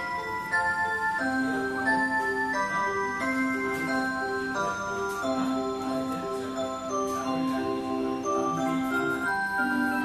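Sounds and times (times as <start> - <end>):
electronic clock chime melody: 0.0 - 10.0.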